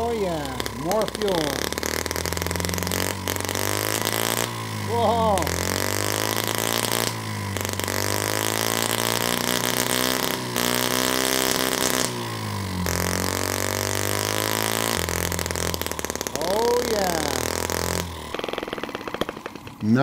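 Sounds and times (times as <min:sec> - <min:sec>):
small engine screaming at high revs: 0:00.0 - 0:20.0.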